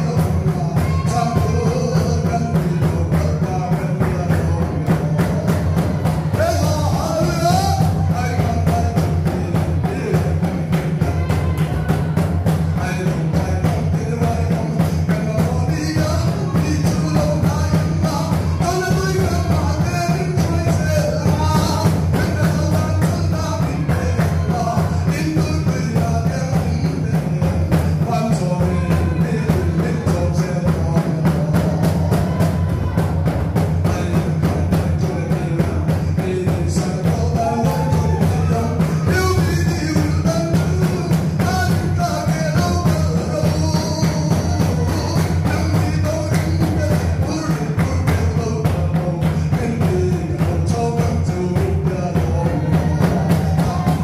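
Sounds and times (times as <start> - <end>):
fast steady drumbeat: 0.0 - 54.0.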